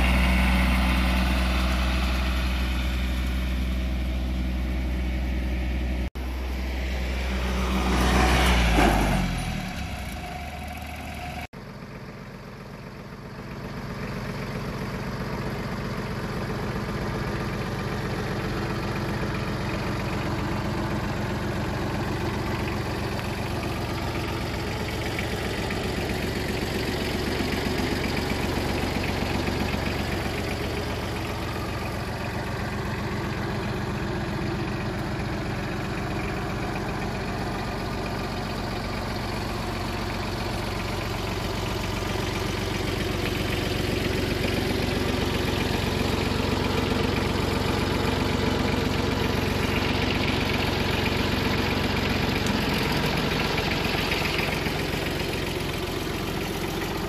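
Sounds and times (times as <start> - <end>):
diesel tractor engine idling: 0.0 - 57.0.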